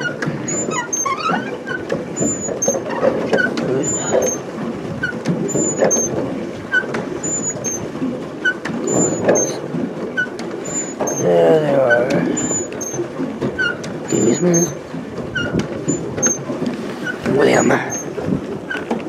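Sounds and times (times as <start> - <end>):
pedal drive squeaks: 0.0 - 9.6, 10.2 - 11.3, 11.9 - 19.0
paddle wheel churning water: 0.0 - 19.0.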